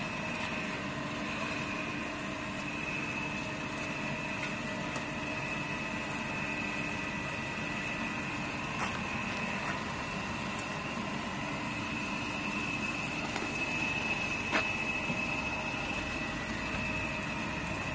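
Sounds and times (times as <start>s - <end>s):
car wash machinery humming: 0.0s - 17.9s.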